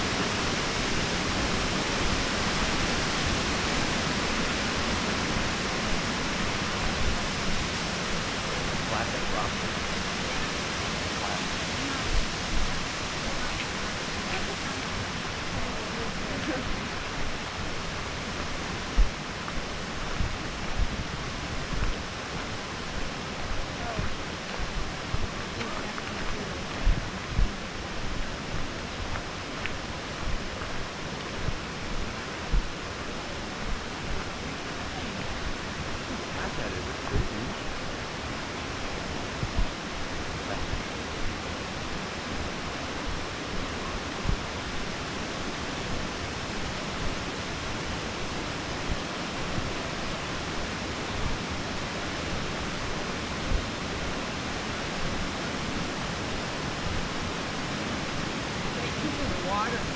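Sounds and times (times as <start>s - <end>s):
creek rushing over shallow bed: 0.0s - 59.9s.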